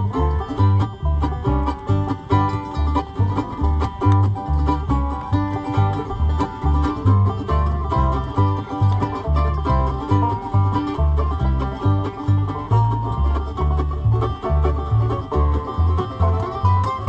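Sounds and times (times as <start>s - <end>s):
banjo rolls: 0.0s - 17.0s
guitar: 0.0s - 17.0s
low bass line: 0.0s - 17.0s.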